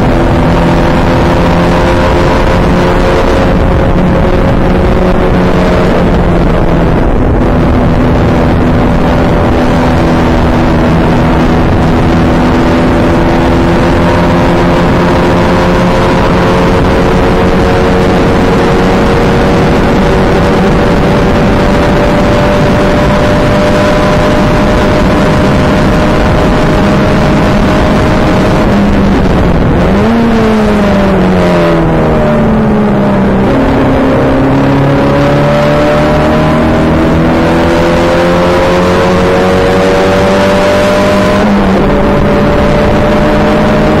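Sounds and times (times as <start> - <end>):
race car engine at full load: 0.0 - 44.0.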